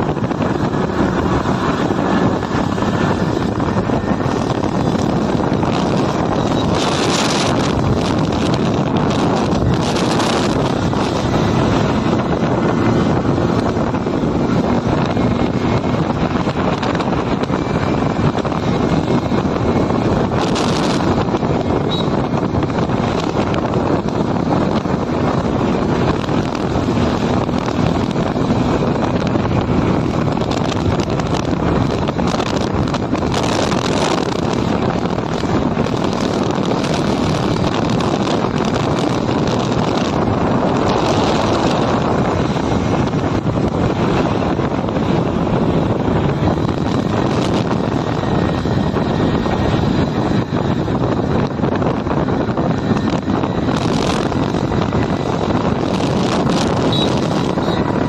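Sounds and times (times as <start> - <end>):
motorcycle running: 0.0 - 58.0
road noise: 0.0 - 58.0
wind rush on microphone: 0.0 - 58.0.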